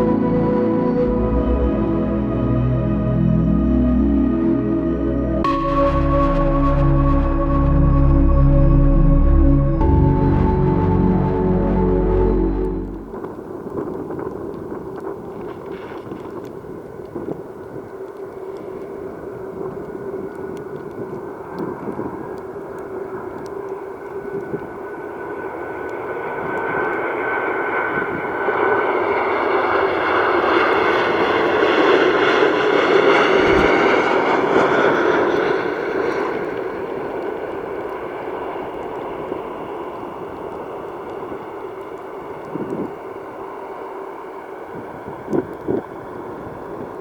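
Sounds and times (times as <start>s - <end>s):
jet engine whine: 0.0s - 47.0s
jet engines on approach: 0.0s - 47.0s.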